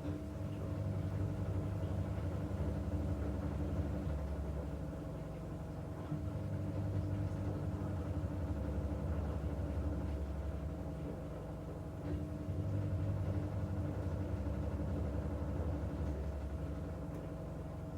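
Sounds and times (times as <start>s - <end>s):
washing machine motor hum: 0.0s - 17.9s.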